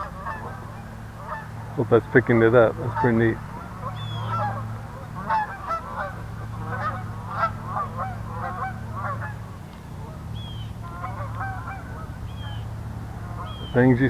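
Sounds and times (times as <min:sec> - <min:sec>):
geese honking: 0:00.0 - 0:14.0
steady low hum: 0:00.0 - 0:14.0.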